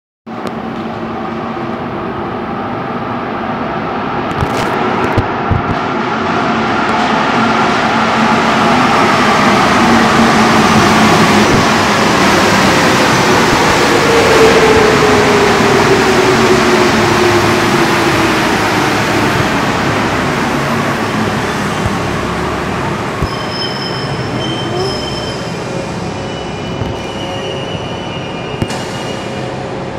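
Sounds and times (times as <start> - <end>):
train rushing into station: 0.3 - 29.9.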